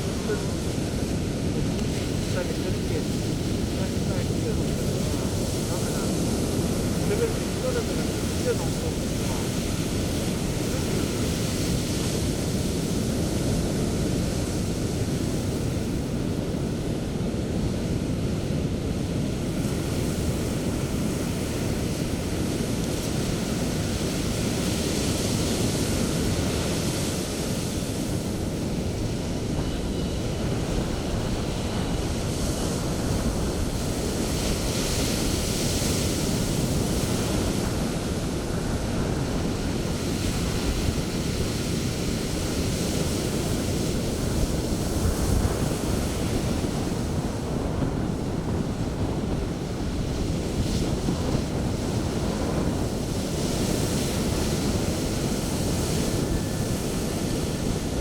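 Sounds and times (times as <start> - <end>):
waves rushing on beach: 0.0 - 58.0.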